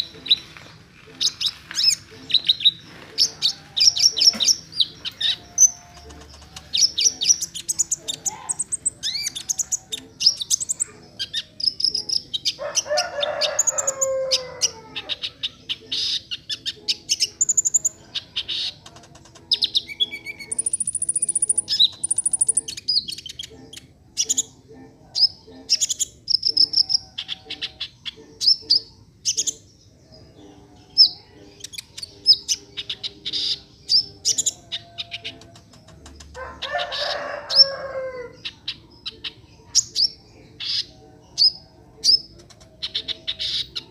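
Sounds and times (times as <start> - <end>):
bird chirps and trills: 0.0 - 43.9.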